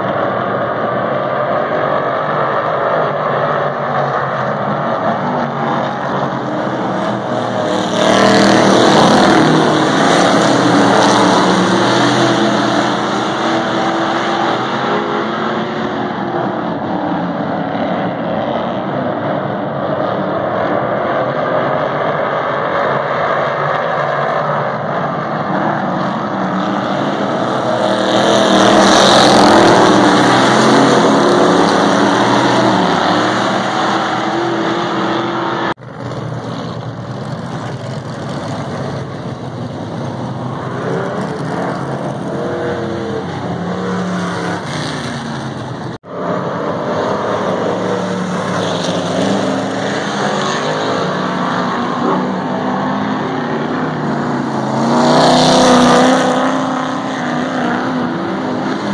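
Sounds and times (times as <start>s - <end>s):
race car engines revving: 0.0s - 58.9s.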